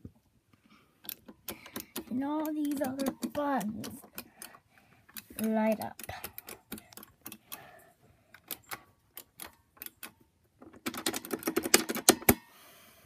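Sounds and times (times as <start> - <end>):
elevator push buttons clicking: 1.0 - 7.6, 8.4 - 12.4.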